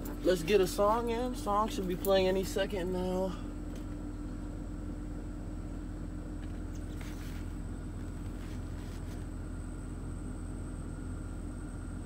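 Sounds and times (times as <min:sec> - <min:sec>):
car engine humming: 0:00.0 - 0:12.0
faint high whine: 0:00.0 - 0:12.0.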